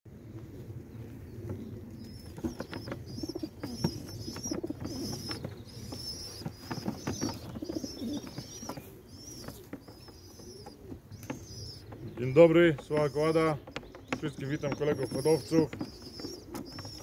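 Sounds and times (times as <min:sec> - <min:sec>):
pigeons cooing: 0:00.1 - 0:17.0
small birds chirping: 0:00.3 - 0:17.0.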